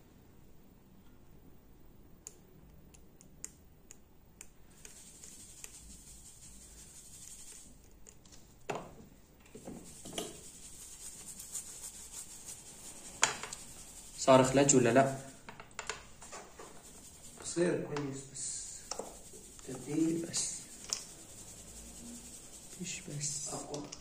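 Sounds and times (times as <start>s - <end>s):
faint high hiss: 3.2s - 24.0s.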